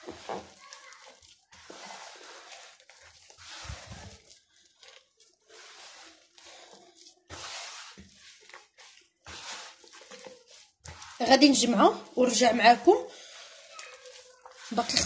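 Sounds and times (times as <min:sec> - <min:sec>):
hand kneading sticky dough: 0:00.0 - 0:15.0.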